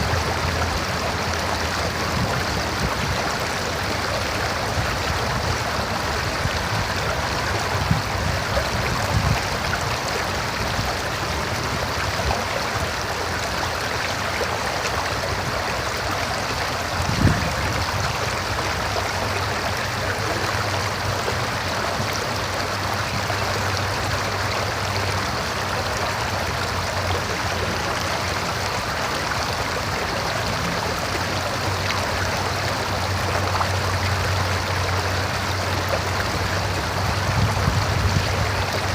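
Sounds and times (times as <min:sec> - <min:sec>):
river water running over rocks: 0:00.0 - 0:38.9.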